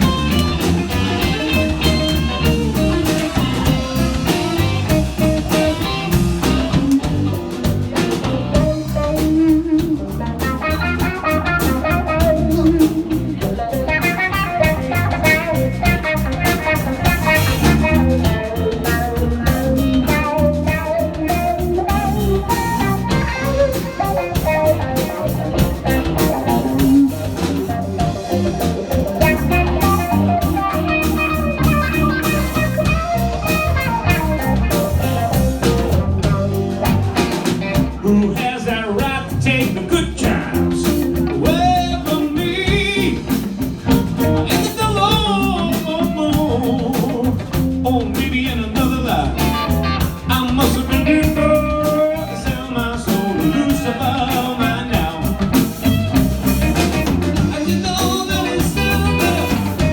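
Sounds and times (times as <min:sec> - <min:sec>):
lead guitar melody: 0:00.0 - 0:38.3, 0:39.8 - 0:48.0, 0:49.0 - 0:59.9
slow blues band playing: 0:00.0 - 0:59.9.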